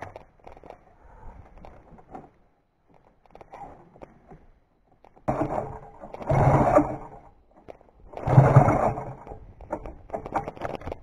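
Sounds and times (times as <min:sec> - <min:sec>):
clicks and rattles: 0:00.0 - 0:11.0.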